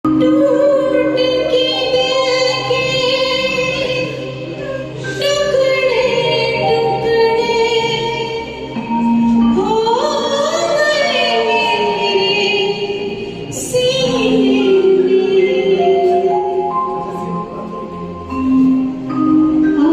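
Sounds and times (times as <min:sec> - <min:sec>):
film song with sliding notes: 0:00.1 - 0:19.9.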